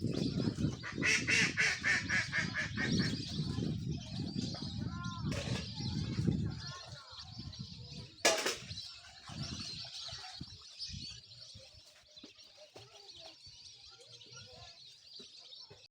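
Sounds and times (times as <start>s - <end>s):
birds chirping in chorus: 0.0s - 15.9s.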